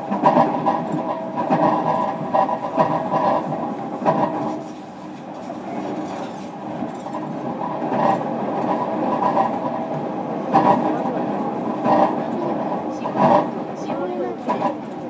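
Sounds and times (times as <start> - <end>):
train running noise: 0.0 - 15.0
wheels clattering over track: 0.0 - 15.0.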